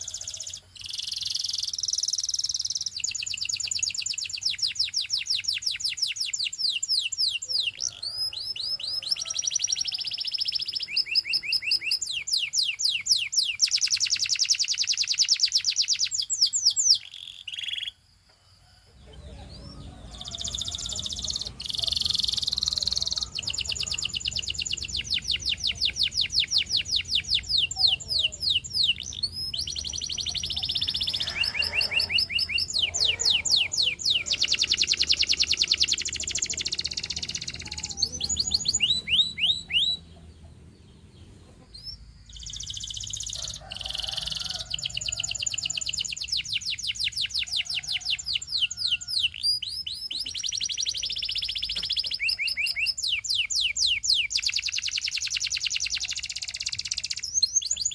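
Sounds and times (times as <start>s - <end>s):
canary trilling: 0.0s - 18.0s, 19.1s - 57.9s.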